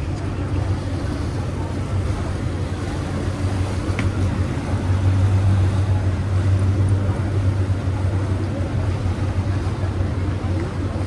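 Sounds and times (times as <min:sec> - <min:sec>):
motorboat engine drone: 0:00.0 - 0:11.0.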